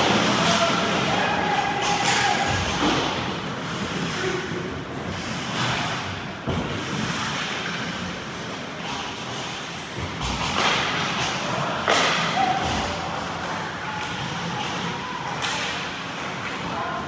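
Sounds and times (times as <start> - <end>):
skates scraping ice: 0.0 - 16.8.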